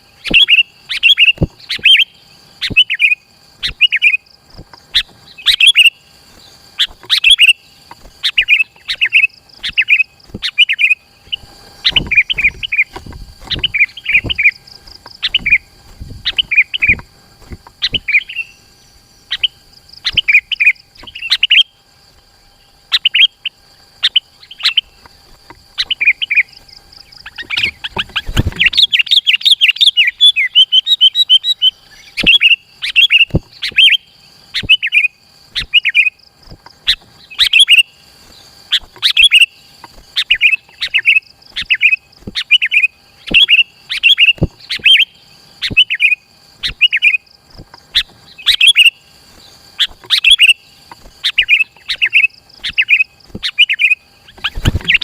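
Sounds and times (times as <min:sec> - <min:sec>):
bulbul chirping song: 0:00.0 - 0:55.0
faint high whine: 0:00.0 - 0:55.0.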